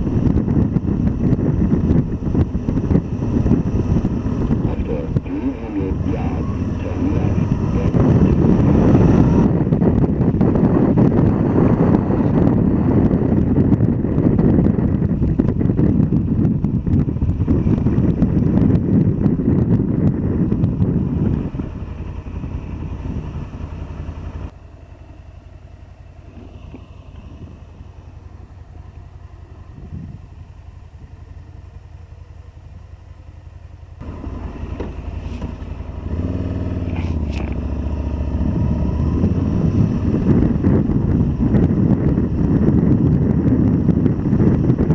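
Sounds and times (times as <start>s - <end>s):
wind rumble on microphone: 0.0s - 25.0s, 25.8s - 44.9s
motorbike engine and road noise: 0.0s - 44.9s.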